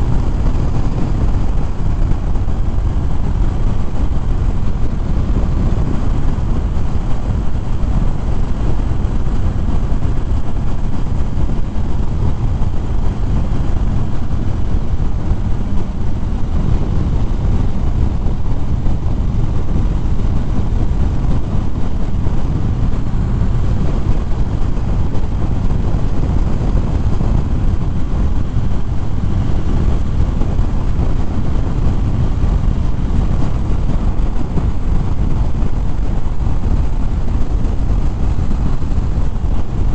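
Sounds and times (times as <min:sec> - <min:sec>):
motorcycle engine rumbling: 0:00.0 - 0:39.9
wind and road noise: 0:00.0 - 0:39.9.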